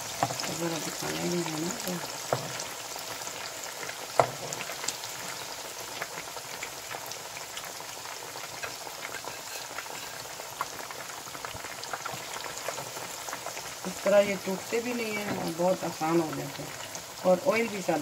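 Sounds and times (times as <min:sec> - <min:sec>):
patties sizzling in hot oil: 0:00.0 - 0:18.0.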